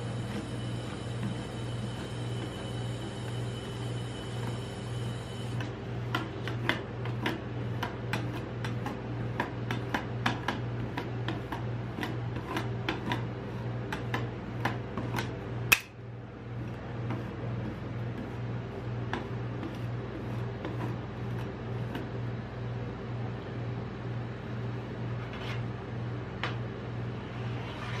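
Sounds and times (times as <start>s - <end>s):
low refrigeration hum: 0.0s - 28.0s.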